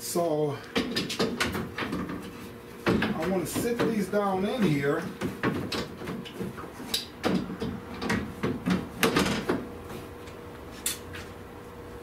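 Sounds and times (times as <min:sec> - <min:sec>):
knocks and clunks of trim pieces: 0:00.7 - 0:10.4.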